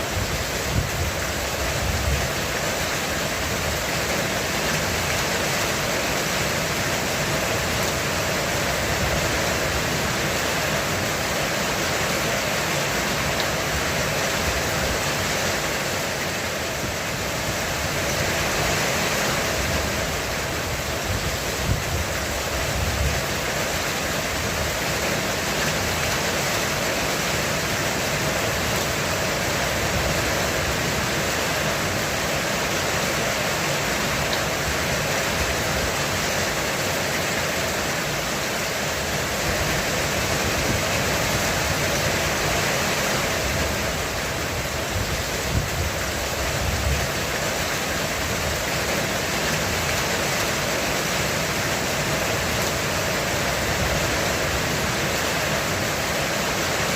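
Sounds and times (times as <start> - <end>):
heavy rain on a roof: 0.0 - 56.9.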